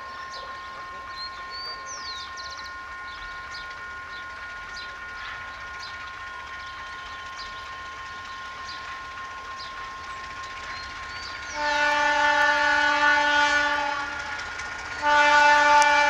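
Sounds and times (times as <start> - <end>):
birds chirping: 0.0 - 12.9
high ringing tone: 0.0 - 15.0
distant diesel locomotive rumble: 0.0 - 16.0.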